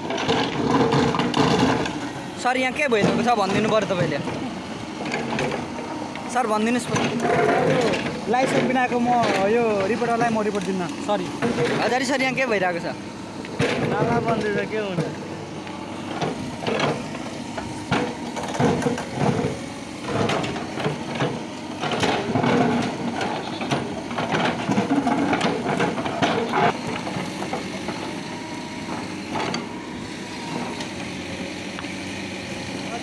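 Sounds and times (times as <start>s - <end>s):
backhoe engine running: 0.0s - 33.0s.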